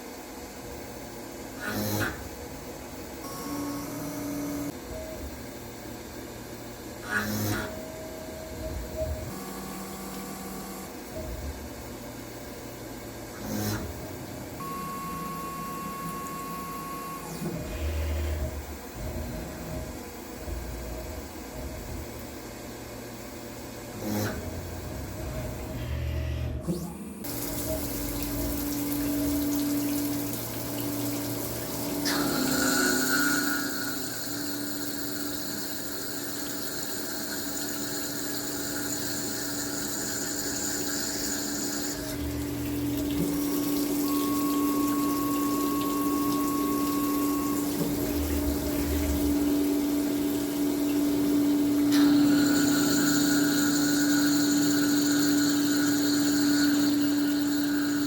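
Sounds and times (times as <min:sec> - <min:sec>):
machine hum: 0:00.0 - 0:58.0
milling machine whining: 0:06.9 - 0:58.0.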